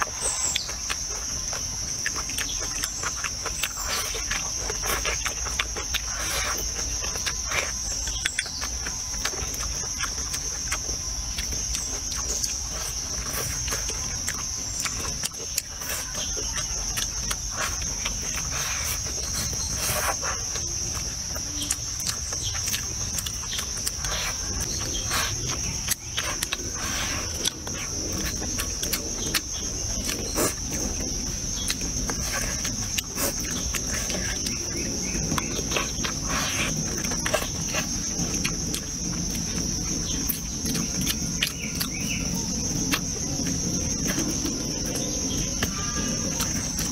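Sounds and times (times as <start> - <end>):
insect drone: 0.0 - 46.9
person chewing: 0.0 - 46.9.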